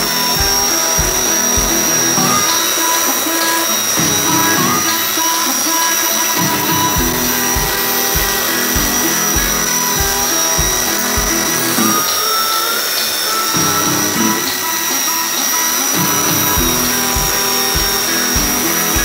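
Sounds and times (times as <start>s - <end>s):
background music with steady beat: 0.0s - 19.0s
belt sander whining: 0.0s - 19.0s.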